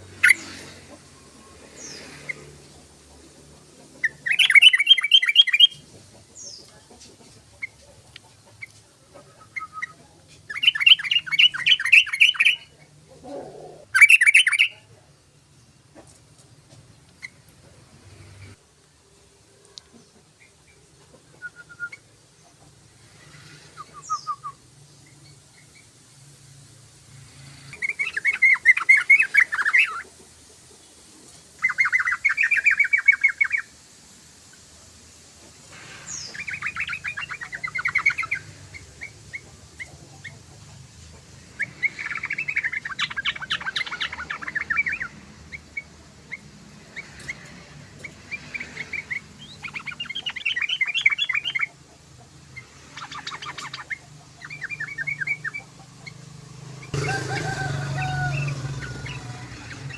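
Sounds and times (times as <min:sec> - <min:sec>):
bird chattering song: 0:00.0 - 0:02.6, 0:03.7 - 0:14.9, 0:19.9 - 0:25.9, 0:27.7 - 0:30.2, 0:30.8 - 0:33.8, 0:35.8 - 0:59.9.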